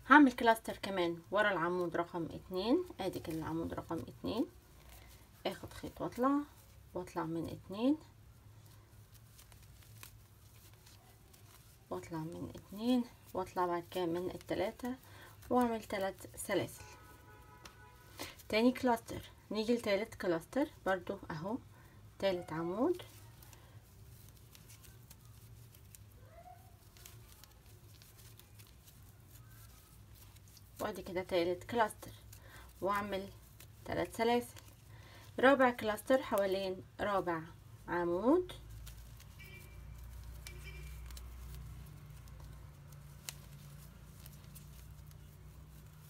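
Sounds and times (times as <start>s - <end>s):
yarn rustling: 0.0s - 46.0s.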